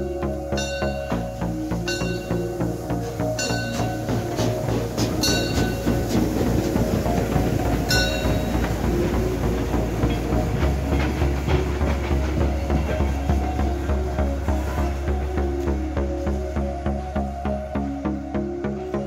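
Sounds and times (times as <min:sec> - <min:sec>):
train wheels clattering over rail joints: 0:00.2 - 0:15.7.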